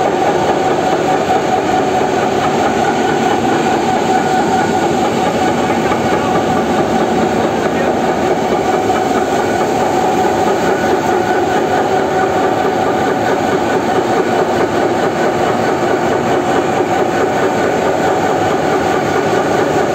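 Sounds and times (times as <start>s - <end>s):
electric pump motor droning: 0.0s - 19.9s.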